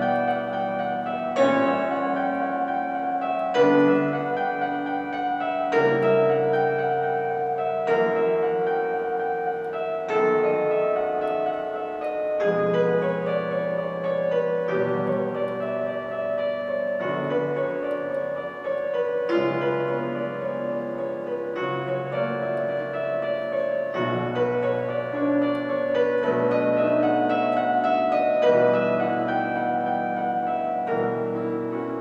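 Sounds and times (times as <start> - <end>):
piano chords: 0.0 - 32.0.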